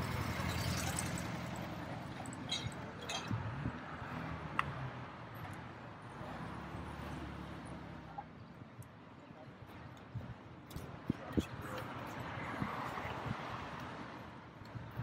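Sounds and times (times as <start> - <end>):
traffic engines and tyres: 0.0 - 15.0.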